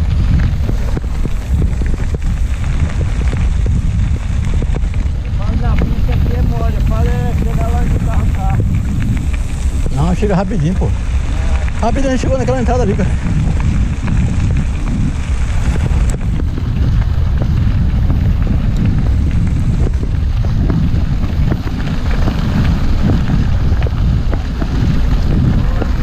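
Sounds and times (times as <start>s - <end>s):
bike ticks and rattles: 0.0s - 26.0s
bike tyres crunching on gravel: 0.0s - 26.0s
wind buffeting microphone: 0.0s - 26.0s.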